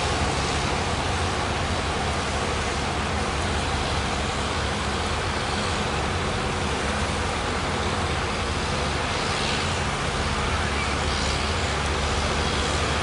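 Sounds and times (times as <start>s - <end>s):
boat engines running: 0.0s - 13.0s.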